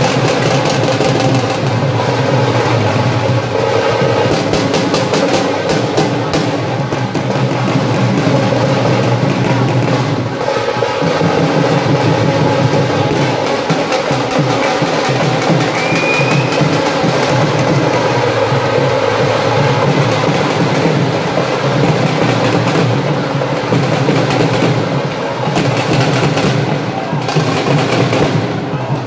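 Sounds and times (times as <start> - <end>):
dhol drums played fast: 0.0 - 29.0.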